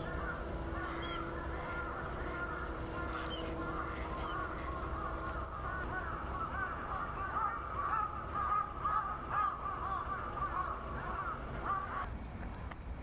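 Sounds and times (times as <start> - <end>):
flock of birds calling: 0.0 - 12.1.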